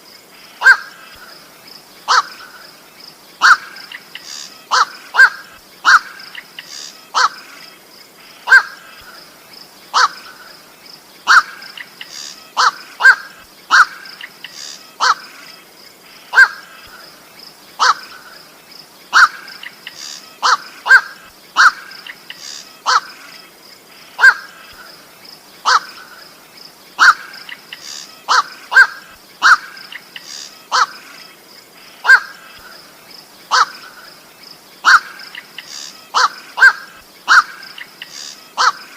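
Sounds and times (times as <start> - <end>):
night heron calling: 0.6 - 1.4, 2.0 - 9.3, 9.9 - 15.4, 16.0 - 38.9.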